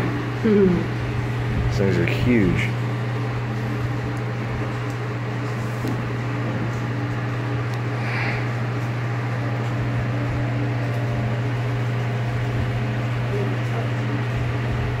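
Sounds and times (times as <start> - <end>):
ventilation fans humming: 0.0 - 15.0.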